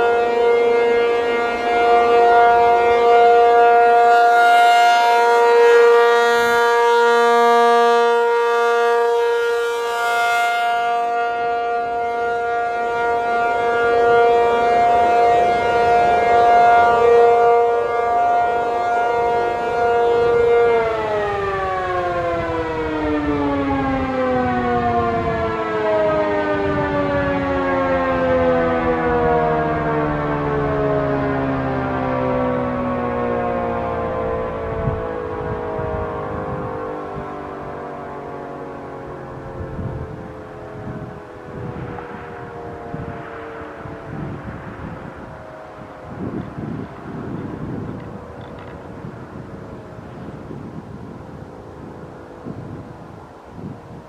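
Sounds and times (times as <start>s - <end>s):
rotating warning siren: 0.0s - 54.0s.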